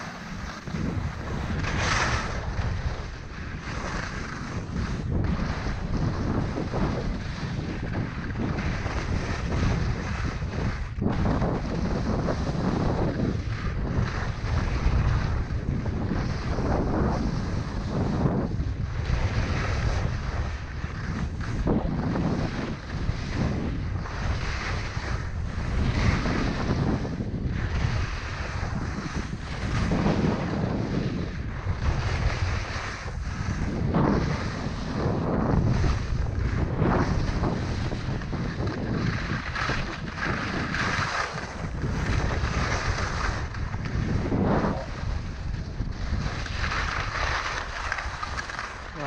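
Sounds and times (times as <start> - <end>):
skis scraping on snow: 0.0 - 49.0
wind buffeting microphone: 0.0 - 49.0.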